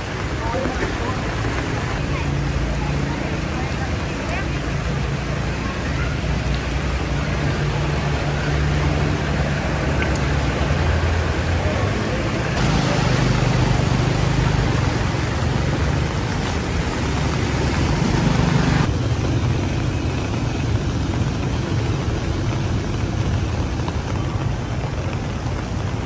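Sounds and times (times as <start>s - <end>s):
dull traffic hum: 0.0s - 26.0s
scooter engines running: 0.0s - 26.0s
water splashing: 0.0s - 26.0s.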